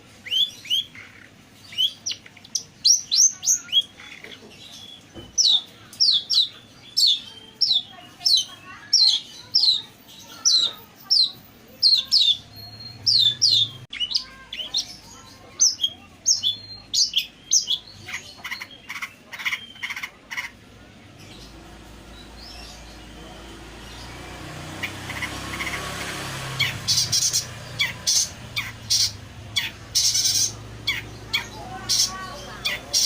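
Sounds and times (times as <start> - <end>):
harsh rasping bird notes: 5.4 - 33.0.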